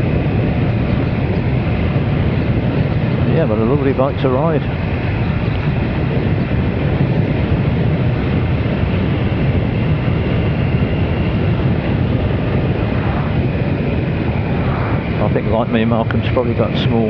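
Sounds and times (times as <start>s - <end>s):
motorcycle engine rumble: 0.0s - 16.6s
wind rushing over microphone: 0.0s - 17.0s.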